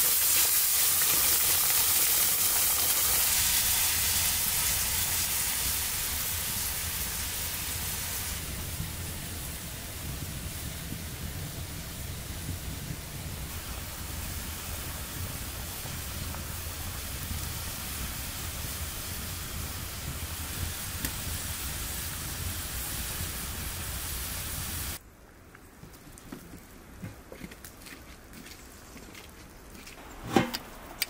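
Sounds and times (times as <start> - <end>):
stew boiling with sizzling hiss: 0.0 - 25.0.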